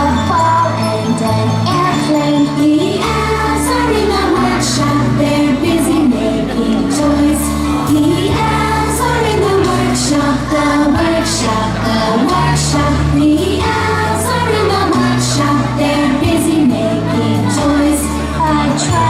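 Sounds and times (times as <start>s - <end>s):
bass: 0.0s - 19.0s
christmas song with beat: 0.0s - 19.0s
singing voices: 0.0s - 19.0s.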